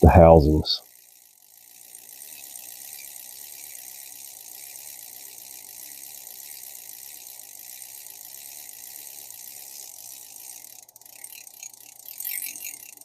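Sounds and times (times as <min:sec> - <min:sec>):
fishing reel gears whirring: 0:00.8 - 0:13.0
reel clicks: 0:00.8 - 0:13.0.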